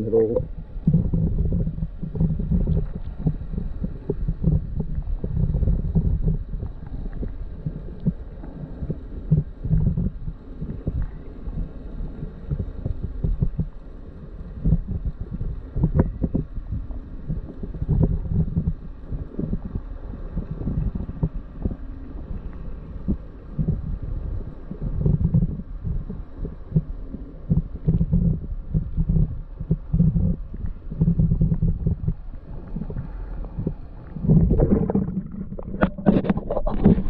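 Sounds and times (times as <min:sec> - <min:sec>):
water buffeting underwater housing: 0:00.0 - 0:37.0.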